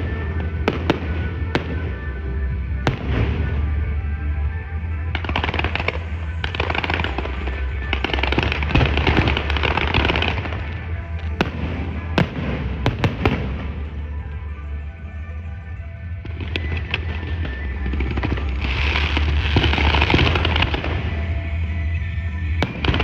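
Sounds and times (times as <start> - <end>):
fireworks sharp bangs: 0.0 - 3.8, 5.1 - 14.1, 16.2 - 23.0
fireworks crackling: 0.0 - 15.2, 16.1 - 23.0
background music: 0.0 - 23.0.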